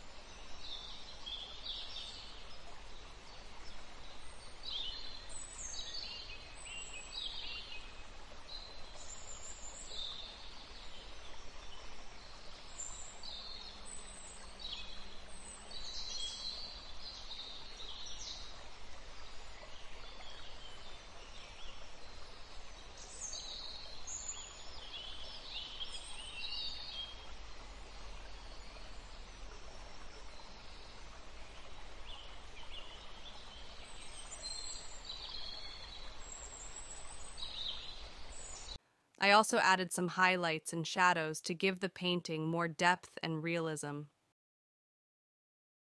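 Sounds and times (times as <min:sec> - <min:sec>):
steady outdoor hiss: 0:00.0 - 0:44.1.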